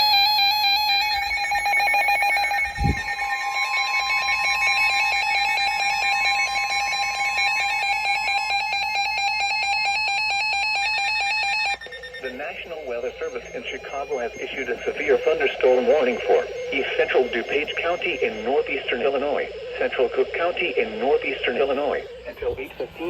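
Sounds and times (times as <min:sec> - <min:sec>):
rapid even beeping: 0:00.0 - 0:09.6, 0:10.2 - 0:23.0
weather radio warning alarm: 0:00.0 - 0:23.0.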